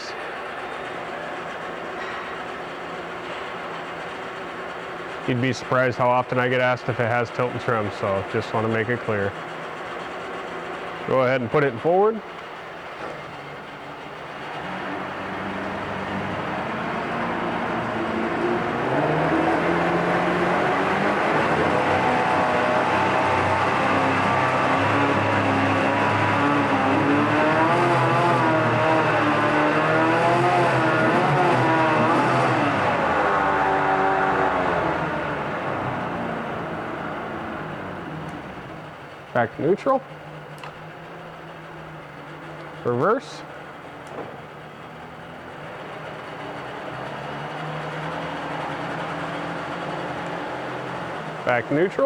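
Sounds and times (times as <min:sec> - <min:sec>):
outboard engine hum: 0:00.0 - 0:52.0.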